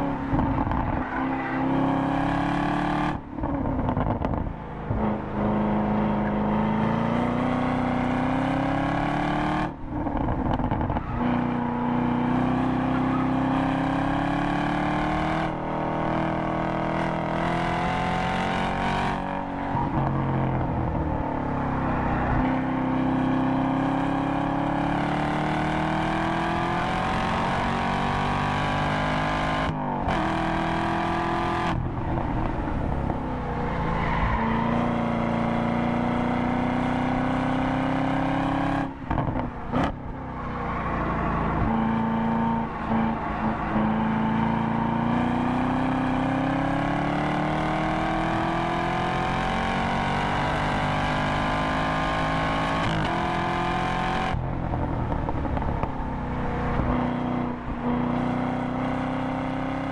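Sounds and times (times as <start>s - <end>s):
car engine accelerating and braking: 0.0s - 59.9s.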